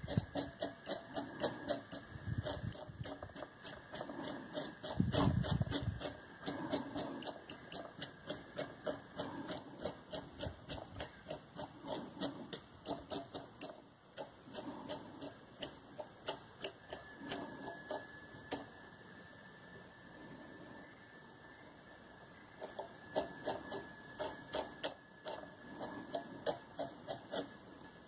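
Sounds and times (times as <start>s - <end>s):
velcro brush scratching strokes: 0.0s - 18.6s, 22.6s - 27.7s
faint steady hum: 0.0s - 28.0s.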